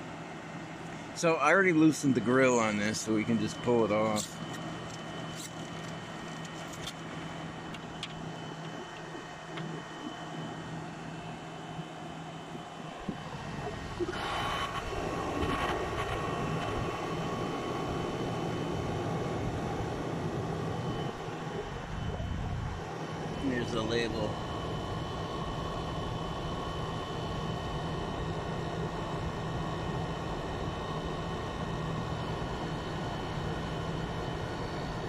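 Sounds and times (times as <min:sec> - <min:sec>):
air conditioner running: 0:00.0 - 0:35.0.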